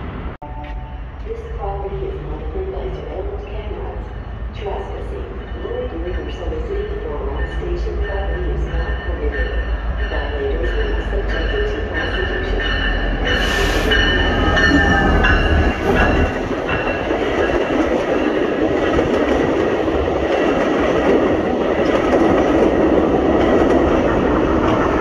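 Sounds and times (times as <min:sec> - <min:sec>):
diesel locomotive engine rumble: 0:00.0 - 0:25.0
passenger cars rolling on rails: 0:00.0 - 0:25.0.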